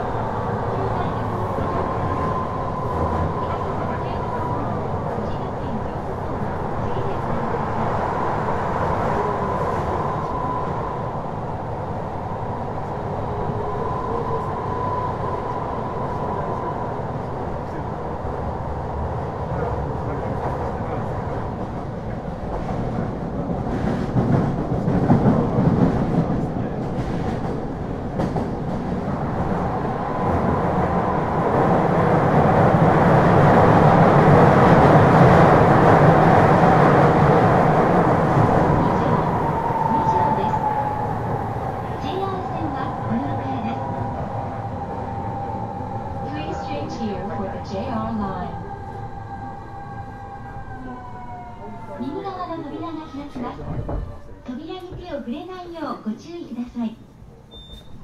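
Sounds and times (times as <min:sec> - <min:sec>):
train wheels rumbling in tunnel: 0:00.0 - 0:58.0.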